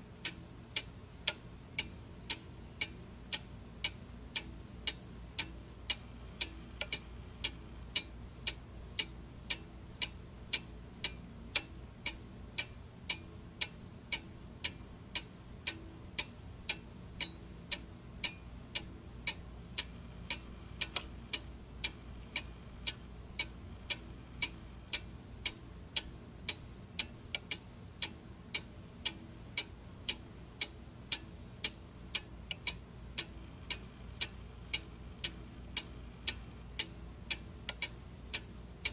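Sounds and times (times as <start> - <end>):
low steady hum: 0.0 - 38.9
clock ticking: 0.2 - 38.9.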